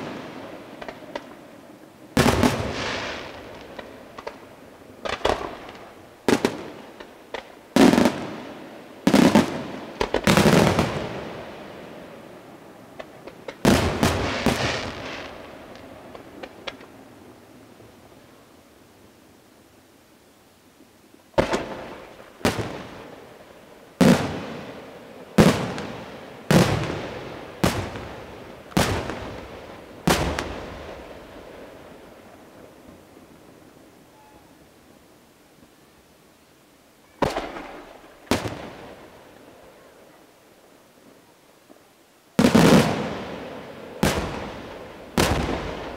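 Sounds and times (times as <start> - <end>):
fireworks bursting: 0.0 - 18.2, 21.3 - 34.6, 37.1 - 40.1, 42.4 - 45.9.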